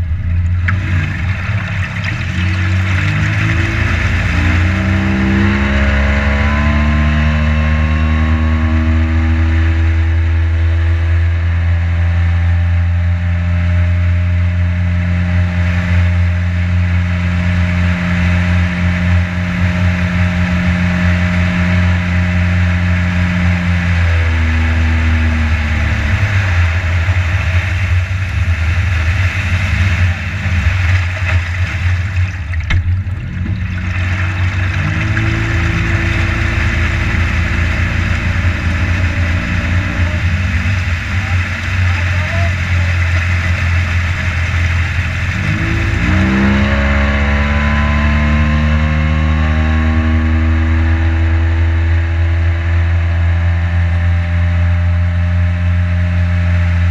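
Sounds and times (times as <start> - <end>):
water and wind rushing: 0.0 - 11.2, 14.7 - 53.8
boat motor running: 0.0 - 56.9.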